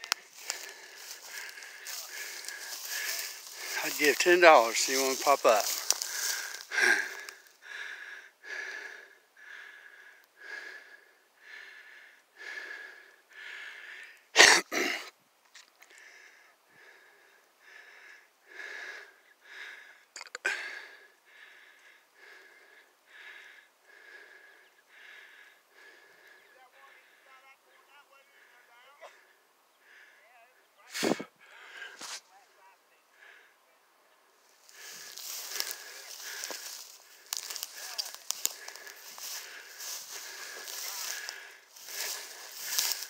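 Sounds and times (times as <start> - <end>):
person breathing hard with wheeze: 0.0 - 14.3, 15.8 - 27.4, 29.2 - 30.3, 31.0 - 32.2, 34.4 - 43.0.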